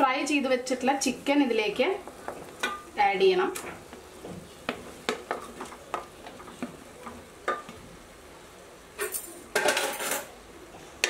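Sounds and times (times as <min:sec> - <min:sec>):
masala sizzling: 0:00.0 - 0:11.0.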